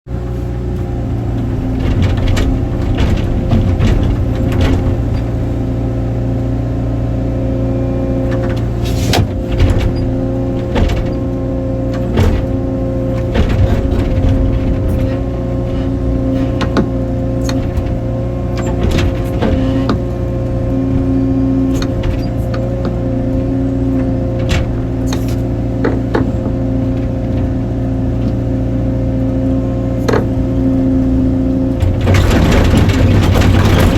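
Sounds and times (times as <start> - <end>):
excavator diesel engine running: 0.1 - 33.9
sharp cracks and knocks: 1.2 - 5.6, 8.3 - 28.6, 30.0 - 33.9.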